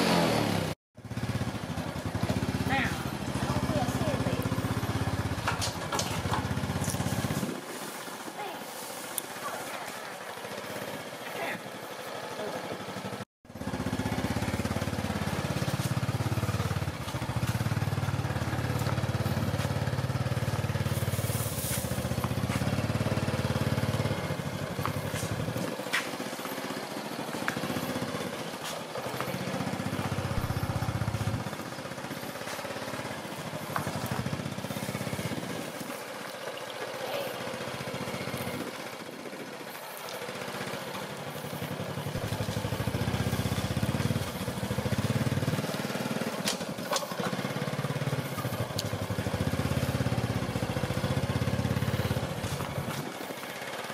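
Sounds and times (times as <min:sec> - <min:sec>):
motorcycle engine rumbling: 0:00.0 - 0:53.9.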